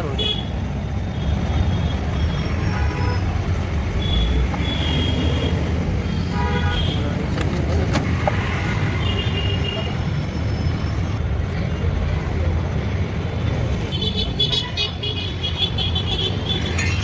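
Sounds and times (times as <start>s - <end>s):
road traffic rumbling: 0.0s - 17.0s.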